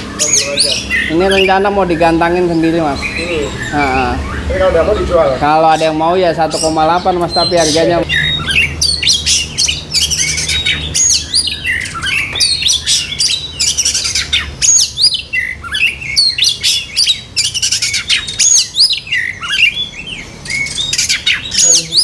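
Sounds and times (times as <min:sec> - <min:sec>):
songbirds chirping and whistling: 0:00.0 - 0:22.0.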